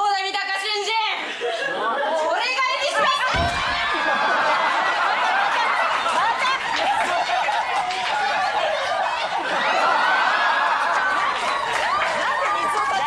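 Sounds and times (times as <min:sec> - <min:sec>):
group of people laughing: 0:01.2 - 0:13.0.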